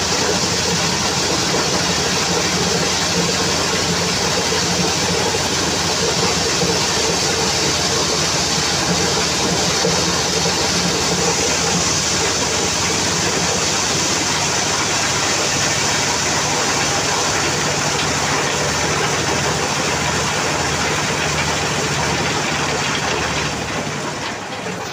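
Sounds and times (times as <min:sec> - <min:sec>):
diesel engine drone: 0:00.0 - 0:24.9
rush of corn being shelled: 0:00.0 - 0:24.9.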